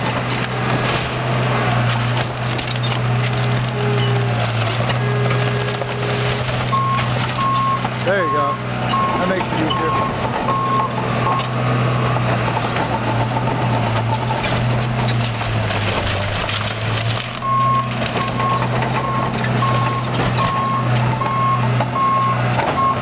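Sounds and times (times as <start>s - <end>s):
debris crunching and clattering: 0.0s - 23.0s
diesel engine running under load: 0.0s - 23.0s.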